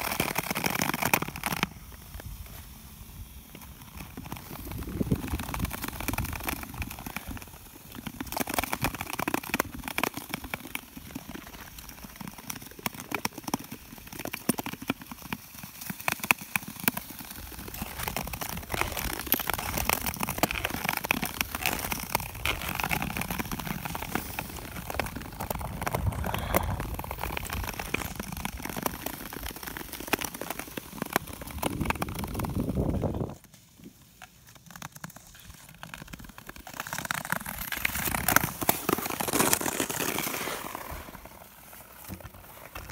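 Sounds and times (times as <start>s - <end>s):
ice crackling with clicks: 0.0s - 2.6s, 3.3s - 42.9s
skate blades scraping on ice: 0.0s - 42.9s.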